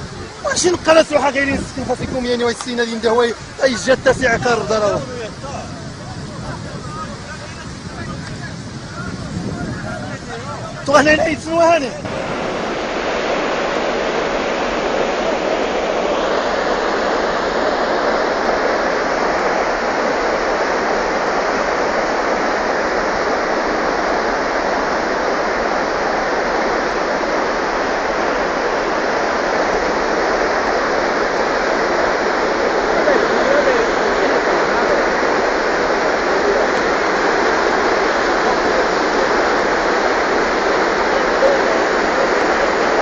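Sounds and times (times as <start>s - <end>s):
floodwater rushing: 0.0s - 43.0s.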